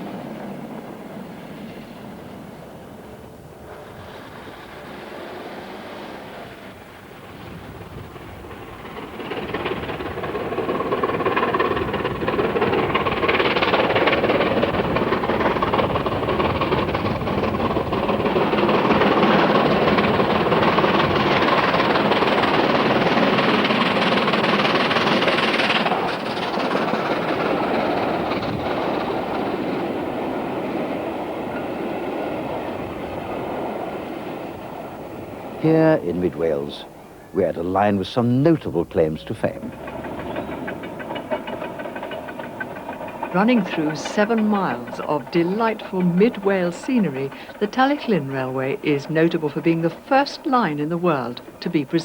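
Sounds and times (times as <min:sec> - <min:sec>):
steam locomotive passing: 0:00.0 - 0:52.0.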